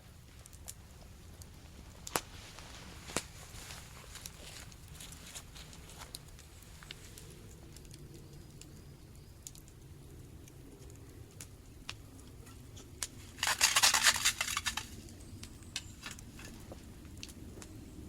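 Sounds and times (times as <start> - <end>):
fire pops and crackles: 0.0 - 18.0
sausages frying over fire: 0.0 - 18.0.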